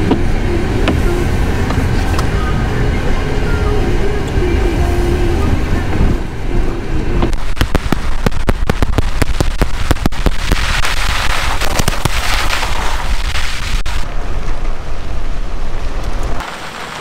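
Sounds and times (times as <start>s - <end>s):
gravel crackling under tyres: 0.0s - 17.0s
tyres rumbling on gravel road: 0.0s - 17.0s
wind: 0.0s - 17.0s.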